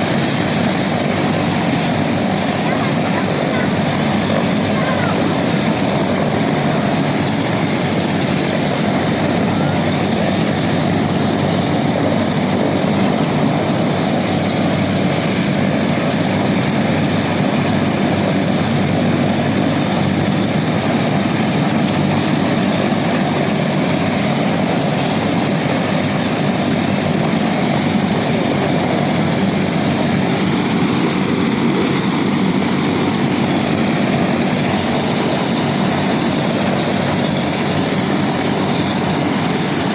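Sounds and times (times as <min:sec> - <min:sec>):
helicopter turbine and rotor noise: 0:00.0 - 0:39.9.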